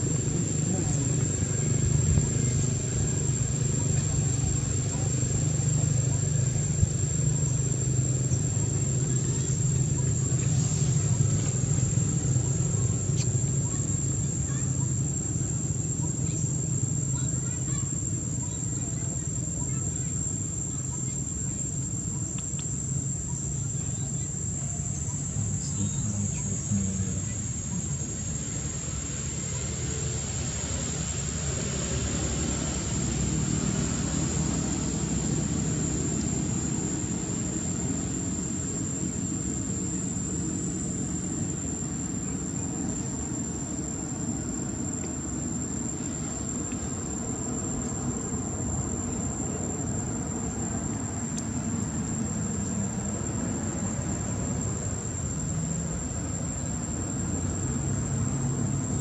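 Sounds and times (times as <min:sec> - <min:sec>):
high-pitched insect trill: 0:00.0 - 0:59.0
low continuous rumble: 0:00.0 - 0:59.0.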